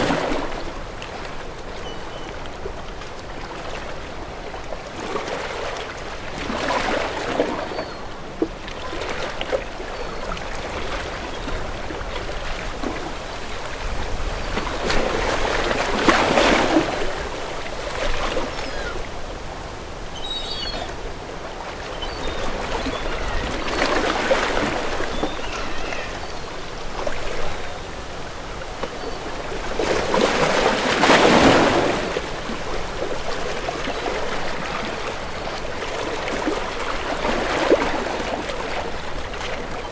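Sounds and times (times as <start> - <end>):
moving water wash: 0.0 - 39.9
sea waves washing in: 2.4 - 39.9.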